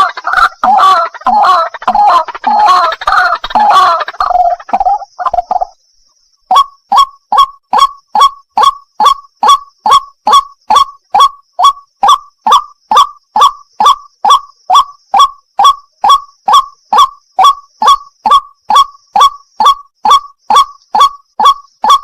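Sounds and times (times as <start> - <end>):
waterhen calling: 0.0 - 5.8, 6.5 - 22.0.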